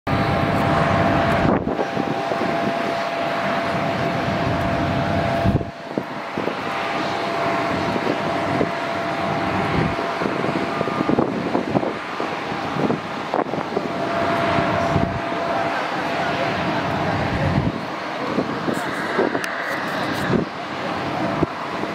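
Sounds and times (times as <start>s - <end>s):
jet engines taxiing: 0.1s - 21.9s.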